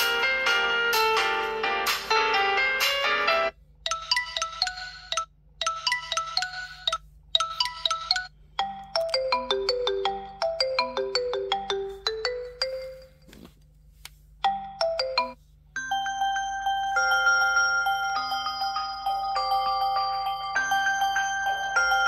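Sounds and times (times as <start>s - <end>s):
phone ringtone melodies: 0.0s - 13.5s, 14.4s - 22.0s.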